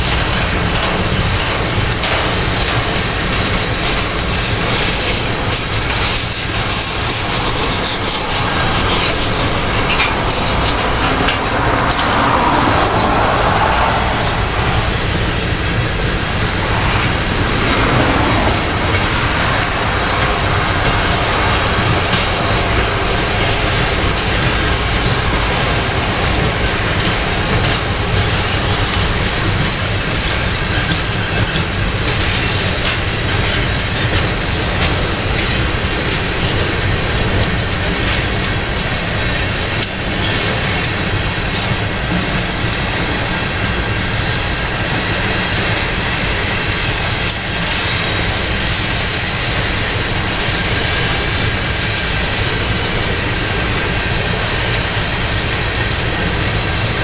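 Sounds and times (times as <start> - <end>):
train wheels clicking over rail joints: 0.0 - 16.6, 17.8 - 57.0
wind rumble on microphone: 0.0 - 57.0.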